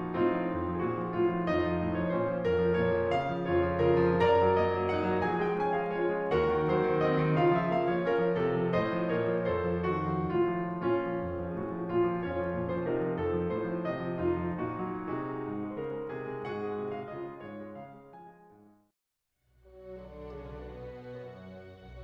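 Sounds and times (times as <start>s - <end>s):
piano music: 0.0s - 18.8s.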